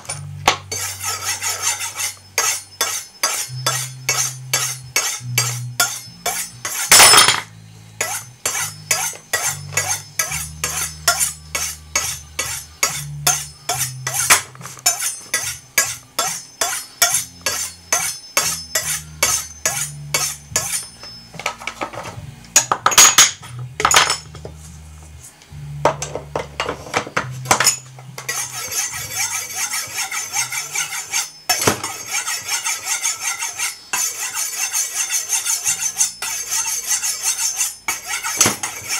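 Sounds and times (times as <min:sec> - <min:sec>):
knife scraping on ceramic rods: 0:00.0 - 0:25.2, 0:25.9 - 0:38.9.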